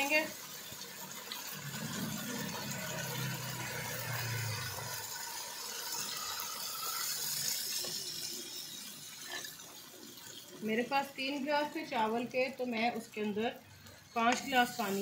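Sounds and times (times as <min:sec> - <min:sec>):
water pouring into pot: 0:00.0 - 0:15.0.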